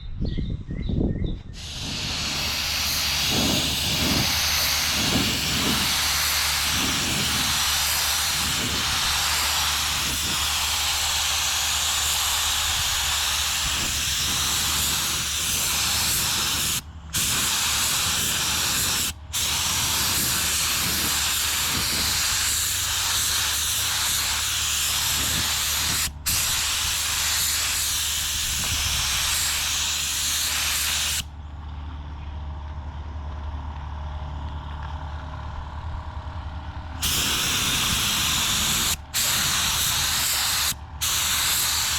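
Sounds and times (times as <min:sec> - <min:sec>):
spray gun hissing: 0:01.6 - 0:31.3, 0:37.0 - 0:41.9.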